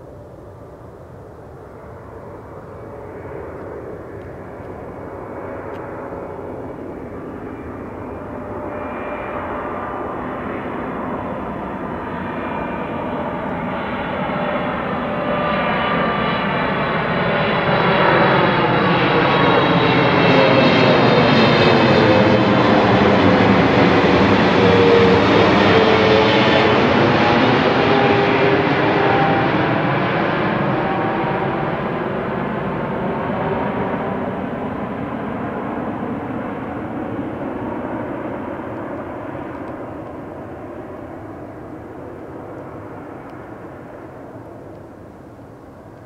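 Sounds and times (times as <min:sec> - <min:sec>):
engine fan whine: 0:00.0 - 0:46.0
jet engines on landing approach: 0:00.0 - 0:46.0.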